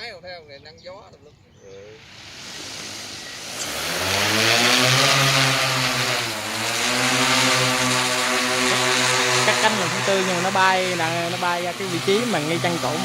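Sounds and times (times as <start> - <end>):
drone propeller buzz: 2.0 - 13.0.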